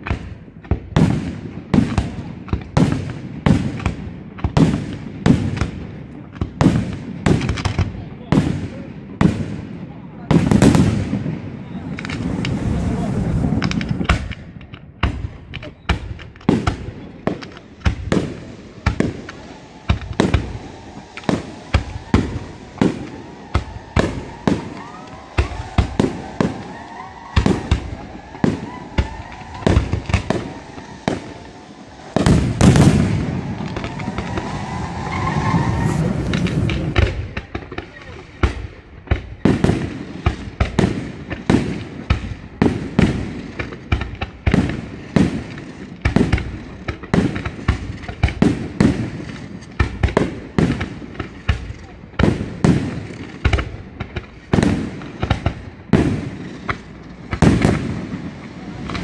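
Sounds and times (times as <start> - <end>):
fireworks bursting: 0.0 - 59.0
fireworks crackle: 0.0 - 59.0.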